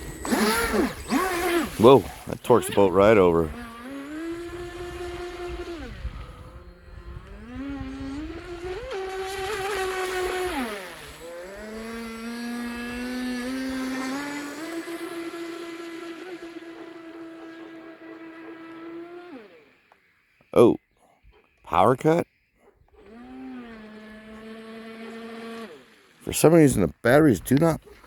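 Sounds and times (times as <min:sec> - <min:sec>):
electric boat motor whining: 0:00.0 - 0:20.5, 0:22.7 - 0:28.0.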